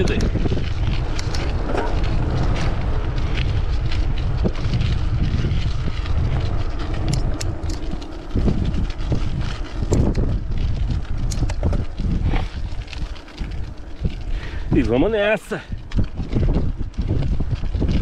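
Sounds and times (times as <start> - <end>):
bike clicks: 0.0 - 18.0
wind buffeting microphone: 0.0 - 18.0.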